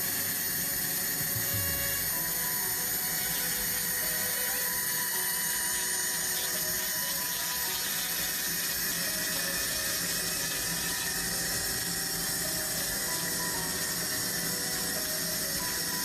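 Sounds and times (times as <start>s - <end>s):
laser cleaning hiss on metal: 0.0s - 16.0s.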